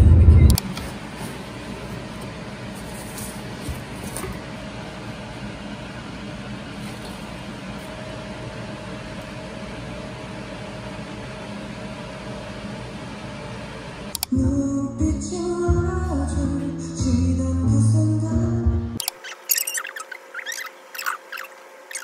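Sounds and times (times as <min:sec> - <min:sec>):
mechanical hum with high whine: 0:00.0 - 0:22.0.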